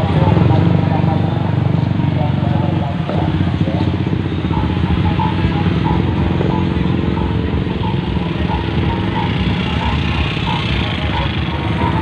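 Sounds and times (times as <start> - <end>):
loudspeaker music: 0.0 - 12.0
motorcycle and car engines idling: 0.0 - 12.0.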